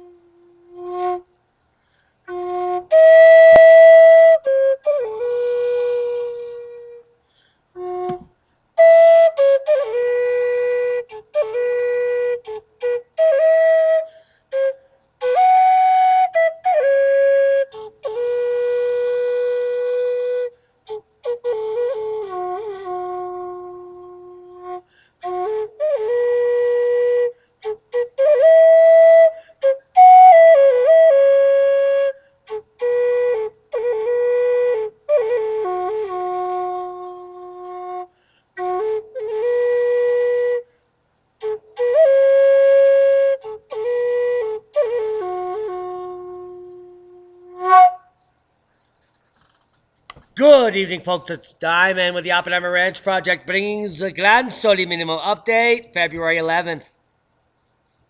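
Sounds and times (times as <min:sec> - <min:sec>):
solo flute melody: 0:00.0 - 0:48.8.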